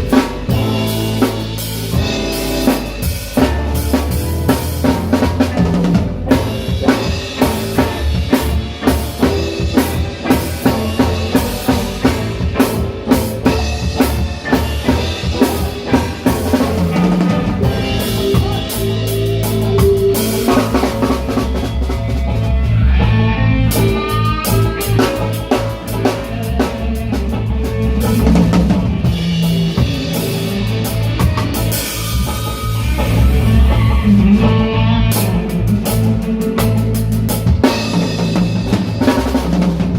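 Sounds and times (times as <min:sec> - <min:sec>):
reggae band playing: 0:00.0 - 0:39.9.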